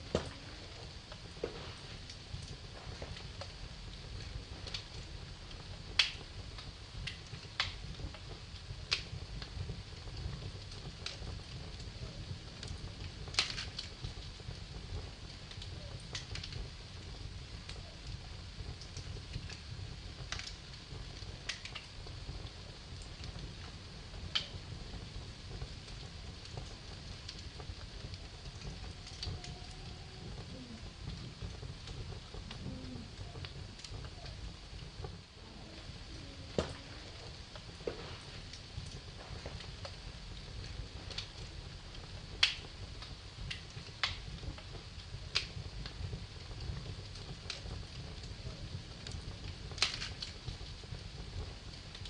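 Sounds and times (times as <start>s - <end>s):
fire pops: 0.0s - 52.0s
wood fire crackling: 0.0s - 52.0s.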